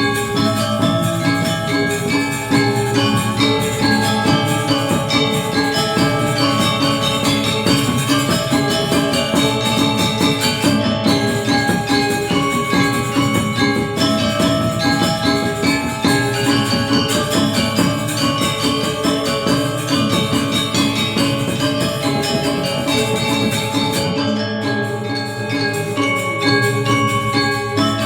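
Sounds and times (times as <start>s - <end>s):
jingling cymbals: 0.0s - 28.0s
metallophones struck in fast runs: 0.0s - 28.0s.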